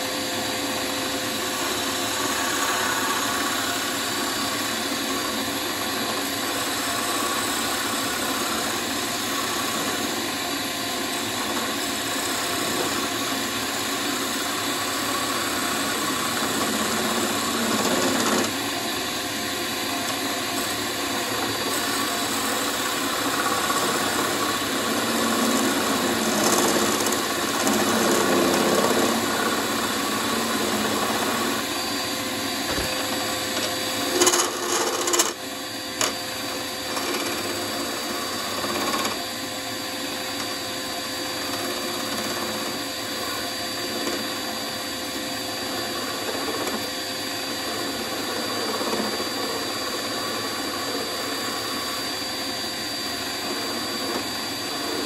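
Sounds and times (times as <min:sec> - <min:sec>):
turning tool cutting wood: 0:00.0 - 0:55.0
wood lathe motor: 0:00.0 - 0:55.0.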